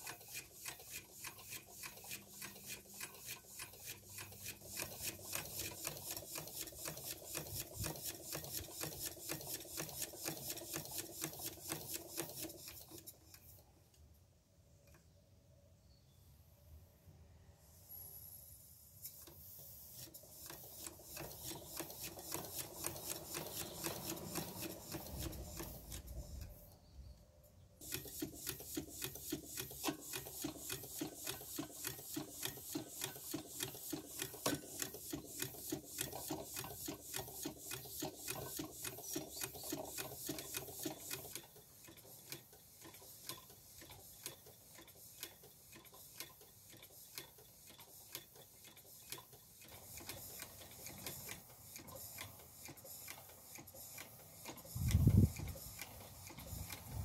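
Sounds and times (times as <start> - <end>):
model engine rapid clicking: 0.0 - 13.4, 19.1 - 26.4, 27.8 - 57.0.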